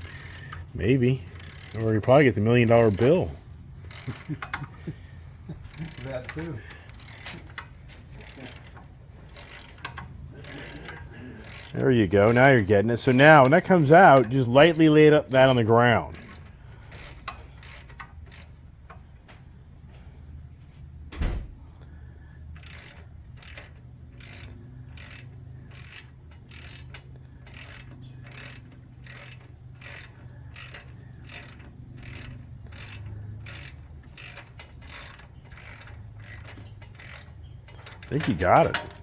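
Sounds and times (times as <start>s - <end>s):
ratchet wrench clicking: 0.0s - 4.8s, 5.6s - 19.1s, 22.4s - 39.0s.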